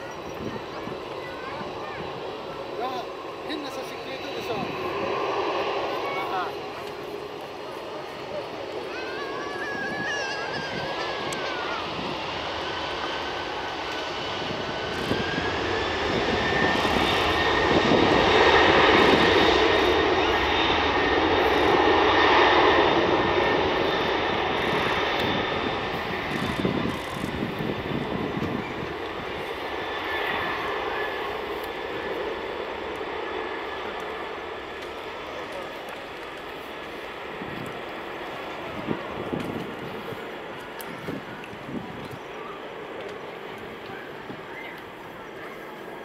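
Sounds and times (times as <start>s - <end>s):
high jet engine whine: 0.0s - 46.0s
jet engines at takeoff thrust: 0.0s - 46.0s.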